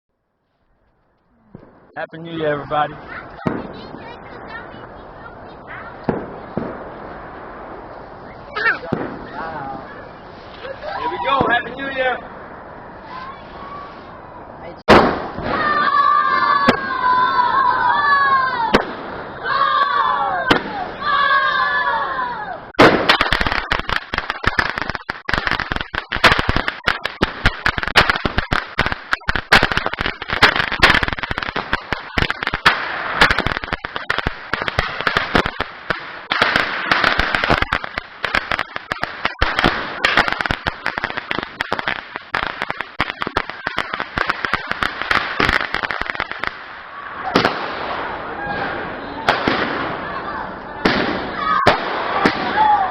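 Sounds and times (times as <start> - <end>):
fireworks rapid bangs and crackling: 1.5 - 12.5, 14.8 - 17.6, 18.7 - 19.8, 20.4 - 21.3, 22.7 - 50.2, 50.8 - 52.9.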